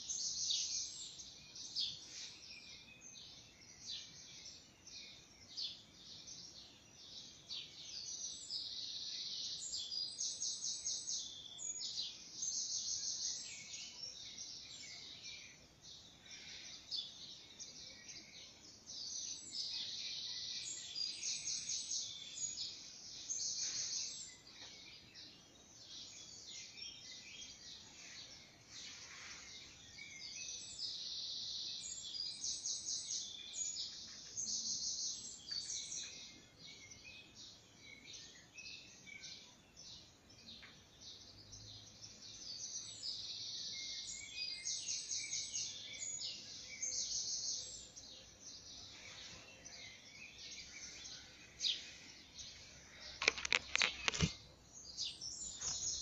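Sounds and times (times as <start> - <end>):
faint outdoor background noise: 0.0 - 56.0
songbirds trilling and chirping: 0.0 - 56.0.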